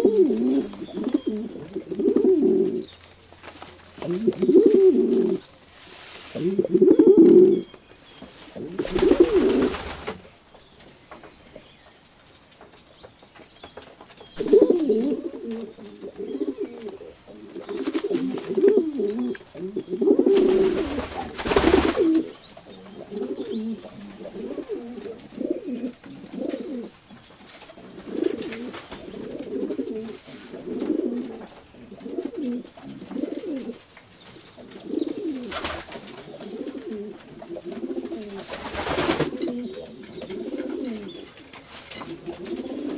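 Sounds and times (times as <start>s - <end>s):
pigeons cooing: 0.0s - 3.0s, 4.0s - 5.5s, 6.2s - 7.8s, 8.5s - 10.2s, 14.4s - 27.0s, 27.7s - 33.8s, 34.4s - 42.9s
rustling: 0.0s - 42.9s.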